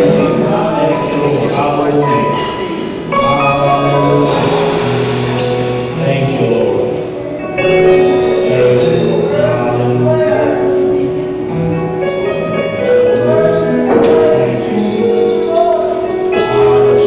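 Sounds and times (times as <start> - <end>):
church music sustained chords: 0.0 - 17.0.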